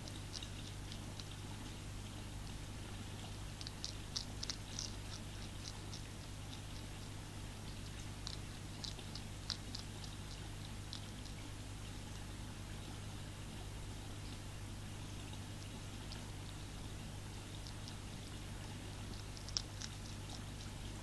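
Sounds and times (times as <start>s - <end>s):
hedgehog crunching dry food: 0.0s - 12.3s, 15.7s - 21.0s.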